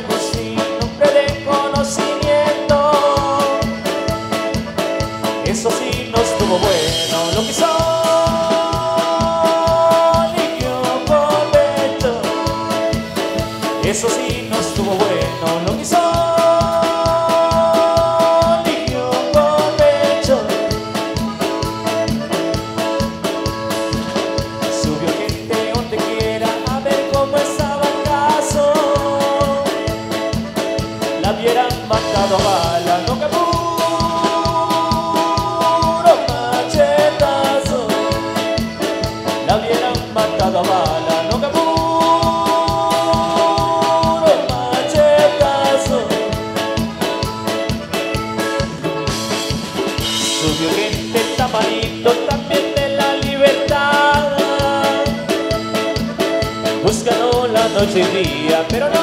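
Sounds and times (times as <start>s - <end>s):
congas: 0.0s - 59.0s
drum kit beat: 0.0s - 59.0s
electric bass: 0.0s - 59.0s
keyboard chords: 0.0s - 59.0s
live band playing: 0.0s - 59.0s.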